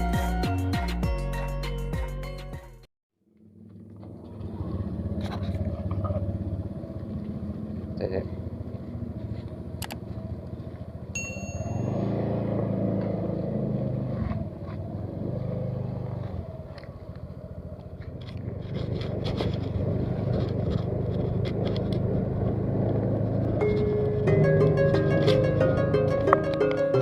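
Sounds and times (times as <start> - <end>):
small engine running: 3.3 - 27.0.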